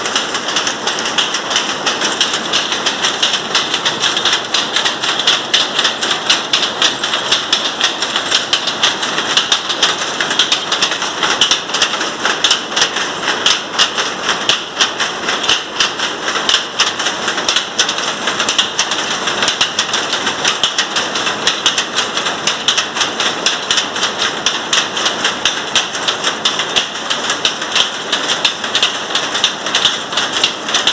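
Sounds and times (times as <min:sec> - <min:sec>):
power loom clattering: 0:00.0 - 0:30.9.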